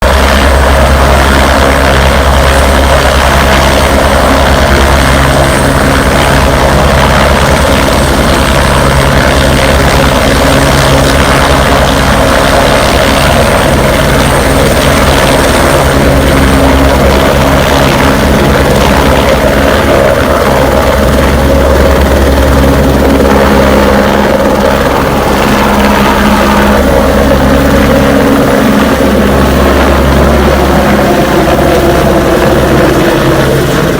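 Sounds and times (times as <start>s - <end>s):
helicopter rotor and turbine: 0.0s - 33.9s.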